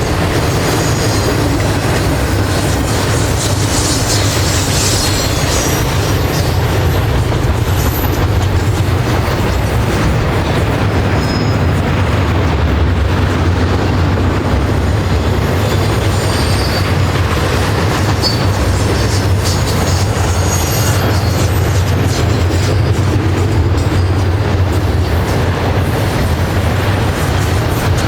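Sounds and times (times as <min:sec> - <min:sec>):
freight train rumbling: 0:00.0 - 0:28.0
train wheel squeals: 0:00.0 - 0:28.0.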